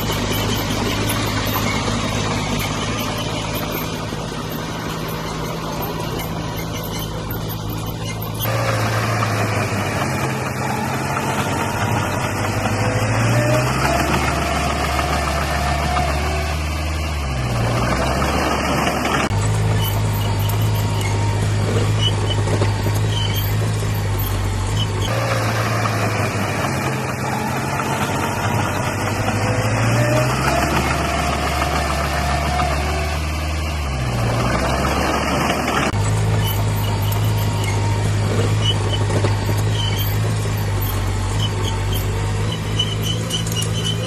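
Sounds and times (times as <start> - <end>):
bulldozer diesel engine: 0.0 - 44.0.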